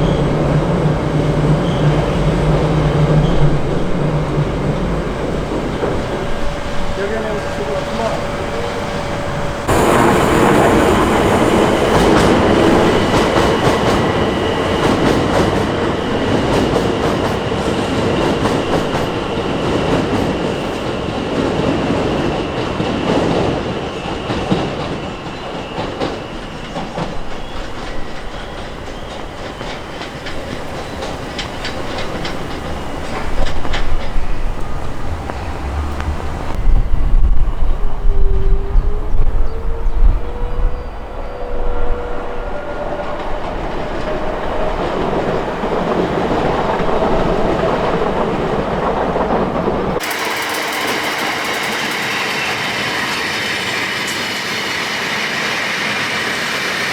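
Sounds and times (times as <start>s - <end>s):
train wheels clicking over rail joints: 0.0s - 37.3s, 42.9s - 56.9s
rumbling rail noise: 0.0s - 56.9s.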